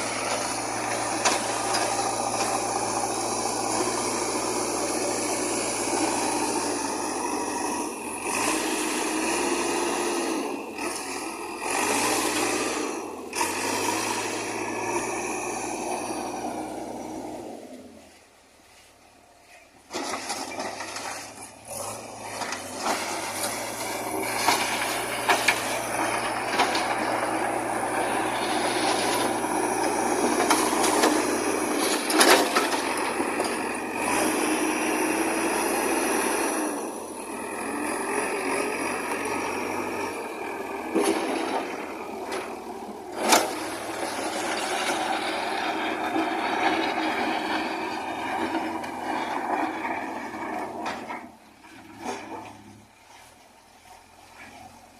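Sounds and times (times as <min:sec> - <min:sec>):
backhoe engine and hydraulics: 0:00.0 - 0:54.9.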